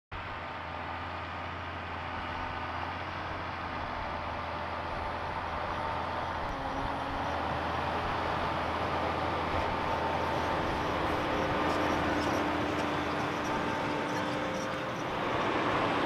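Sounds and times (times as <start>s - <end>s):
tractor diesel engine under load: 0.1s - 16.0s.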